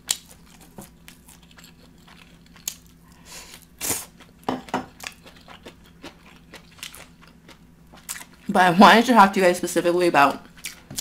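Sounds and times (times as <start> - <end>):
wet chewing: 0.0 - 8.5, 10.5 - 11.0.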